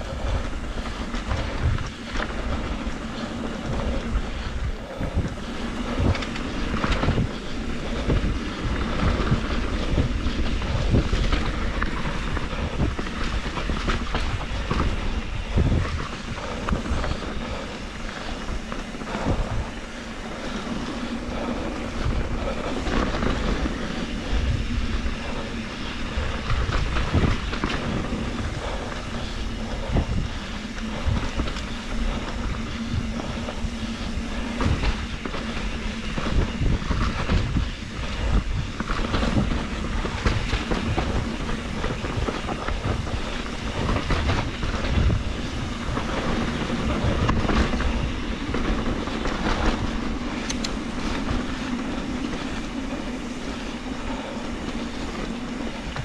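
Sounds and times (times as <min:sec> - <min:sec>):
bike rattling over bumps: 0:00.0 - 0:56.0
bike tyres rolling on dirt: 0:00.0 - 0:56.0
wind rumbling on microphone: 0:00.0 - 0:56.0.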